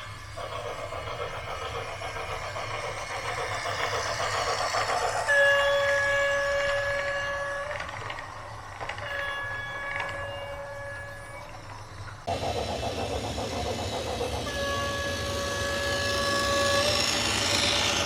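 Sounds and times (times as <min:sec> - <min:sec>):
rhythmic mechanical clatter: 0:00.0 - 0:18.0.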